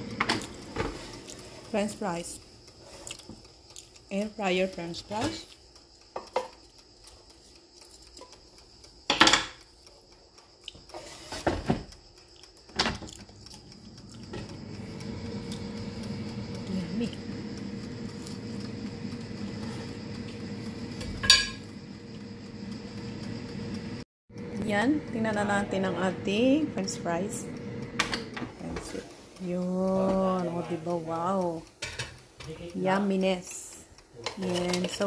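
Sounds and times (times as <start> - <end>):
air fryer fan whirring: 0.0 - 35.0.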